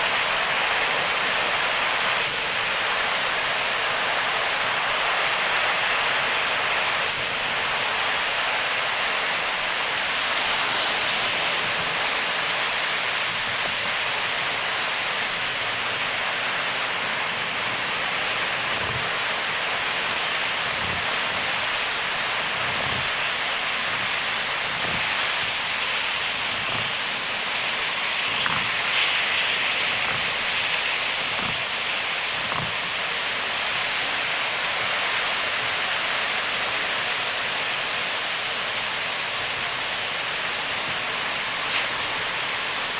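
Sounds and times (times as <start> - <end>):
heavy rain on a car: 0.0 - 42.9
tyres hissing through water: 0.0 - 42.9.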